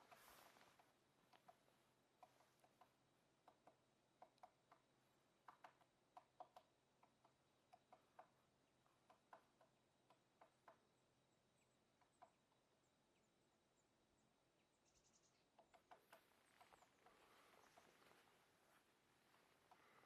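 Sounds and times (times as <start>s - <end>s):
woodpecker pecking on wood: 0.0s - 11.0s, 11.8s - 12.6s, 15.2s - 20.0s.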